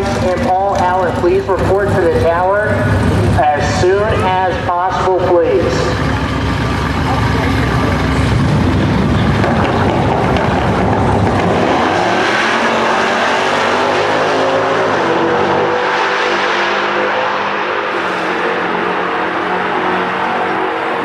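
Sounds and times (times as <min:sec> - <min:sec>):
drag cars accelerating: 0:00.0 - 0:21.0.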